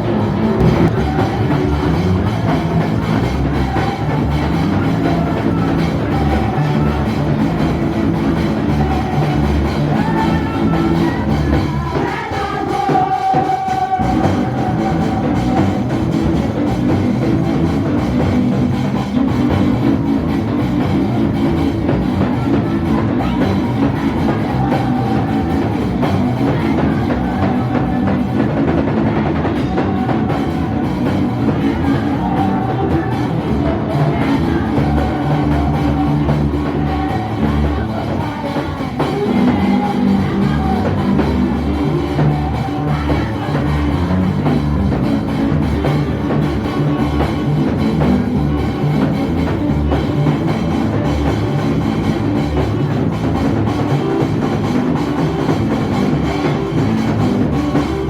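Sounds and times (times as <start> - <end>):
band music: 0.0 - 58.0
drum kit: 0.0 - 58.0.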